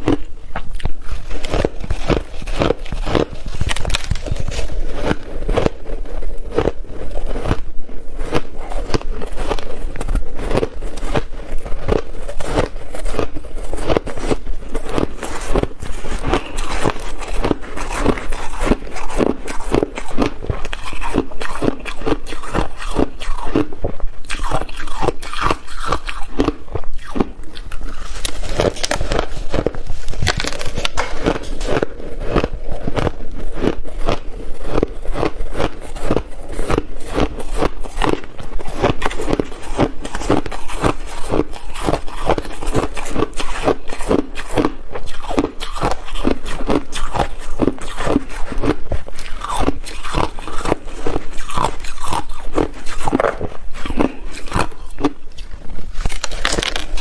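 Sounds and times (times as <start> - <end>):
person chewing ice crunching: 0.0 - 57.0.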